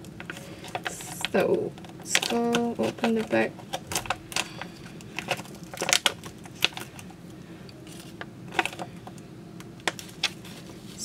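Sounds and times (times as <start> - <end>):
foil bag crinkling: 0.0 - 9.2, 9.8 - 11.0.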